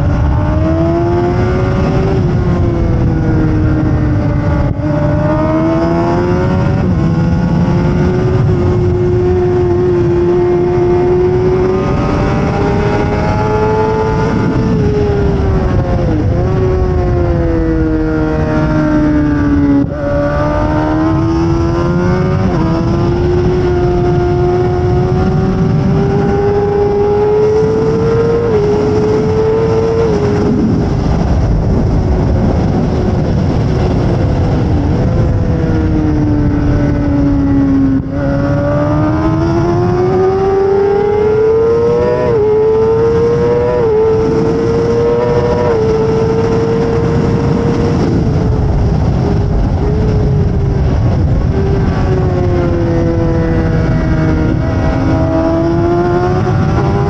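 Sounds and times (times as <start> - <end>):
motorcycle engine at high revs: 0.0 - 57.0
wind rush: 0.0 - 57.0.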